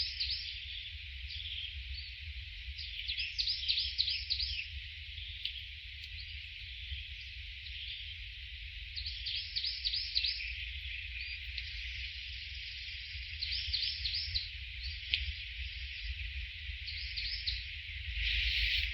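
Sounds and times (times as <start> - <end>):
insects droning: 0.0 - 18.9.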